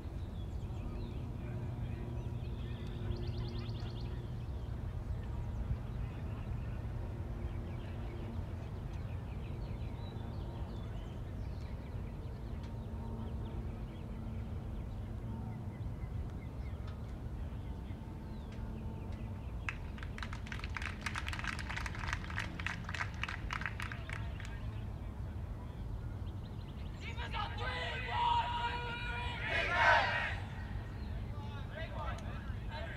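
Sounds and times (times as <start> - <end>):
distant voices: 0.2 - 32.9.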